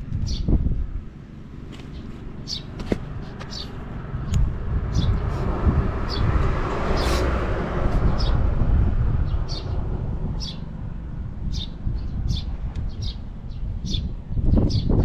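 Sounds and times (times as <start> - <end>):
birds chirping: 0.0 - 7.3, 8.0 - 8.5, 9.2 - 10.8, 11.4 - 15.0.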